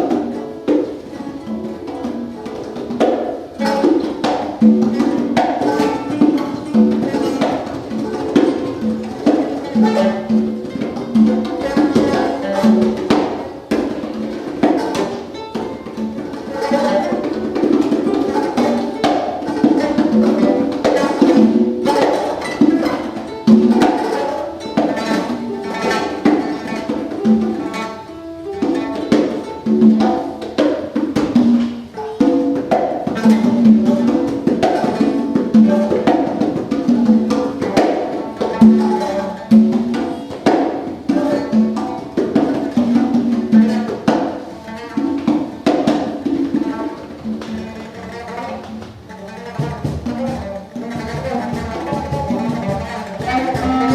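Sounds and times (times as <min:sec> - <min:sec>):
conga drums: 0:00.0 - 0:53.9
plucked string instrument: 0:00.0 - 0:53.9.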